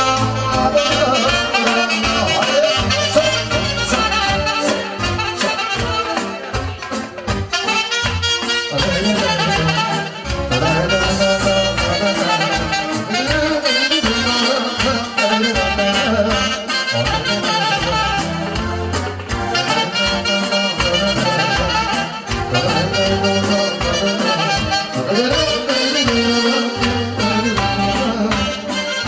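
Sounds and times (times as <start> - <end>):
instrumental band music: 0.0 - 29.0.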